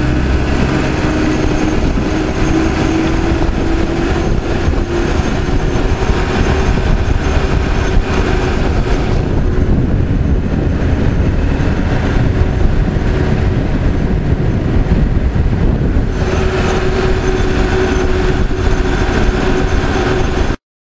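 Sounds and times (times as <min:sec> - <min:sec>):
diesel engine running under load: 0:00.0 - 0:20.6
steady whine: 0:00.0 - 0:20.6.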